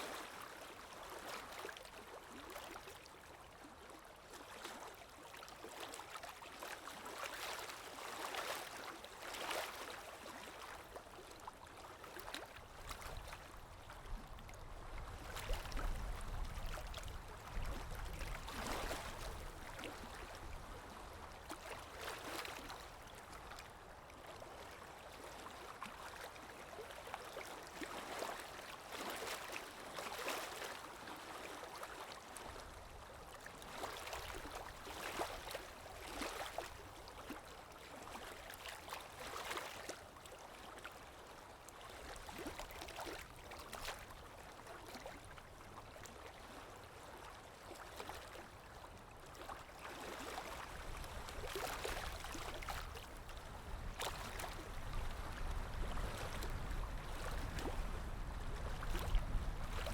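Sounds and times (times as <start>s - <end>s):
water lapping: 0.0s - 59.9s.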